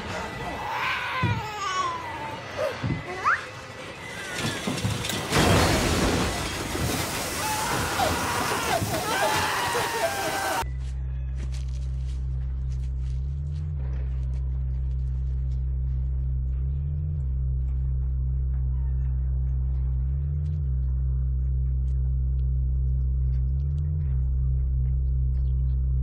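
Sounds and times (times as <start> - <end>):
low sustained music drone: 0.0 - 7.2, 9.8 - 26.0.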